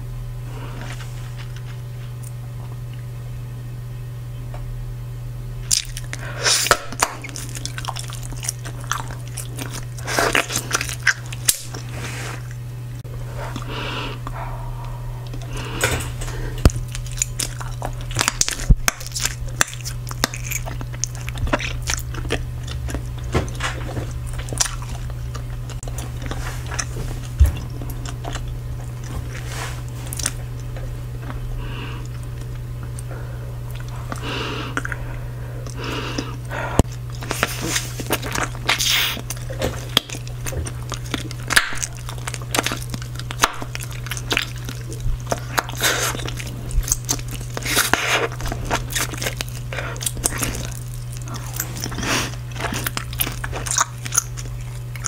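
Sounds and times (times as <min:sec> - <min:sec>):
steady low hum: 0:00.0 - 0:55.0
gum chewing and smacking: 0:05.6 - 0:12.6, 0:13.2 - 0:55.0.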